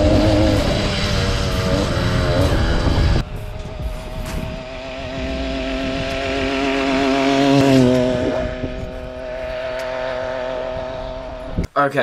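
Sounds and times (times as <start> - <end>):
two-stroke engine passing by: 0.0 - 11.6.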